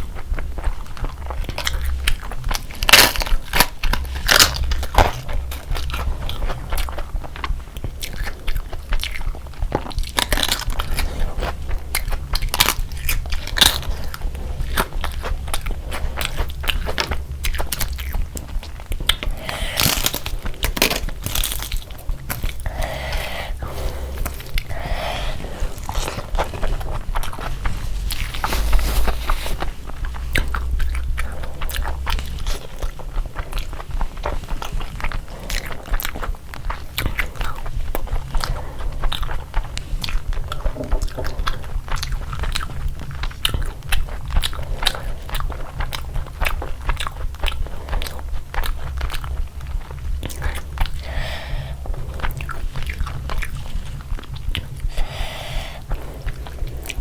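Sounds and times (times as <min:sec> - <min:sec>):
chewing and biting: 0:00.0 - 0:57.0
crunching of crisp food: 0:00.0 - 0:57.0.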